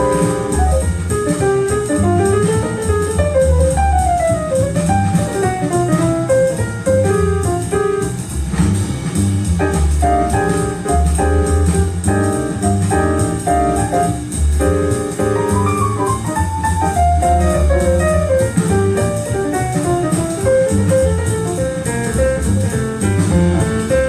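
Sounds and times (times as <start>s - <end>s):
instrumental jazz with bass line: 0.0s - 24.0s.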